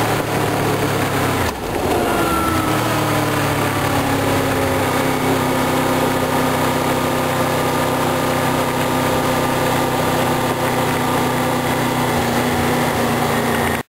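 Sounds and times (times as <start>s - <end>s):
wind and road noise: 0.0s - 13.8s
motorcycle engine running: 0.0s - 13.9s.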